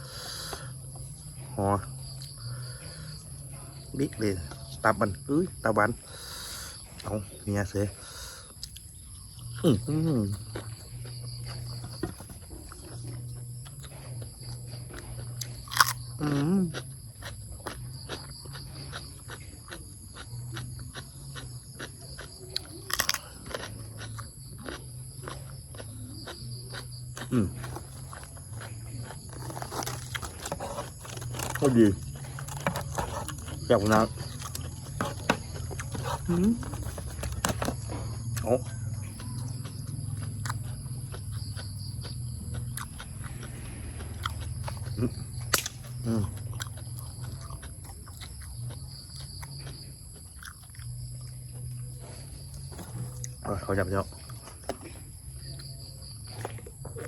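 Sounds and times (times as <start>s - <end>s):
person chewing wetly: 5.6s - 57.0s.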